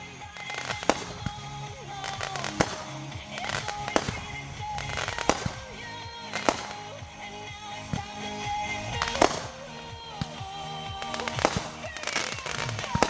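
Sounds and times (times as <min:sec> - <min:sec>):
background music: 0:00.0 - 0:13.0
fireworks bangs: 0:00.0 - 0:13.0.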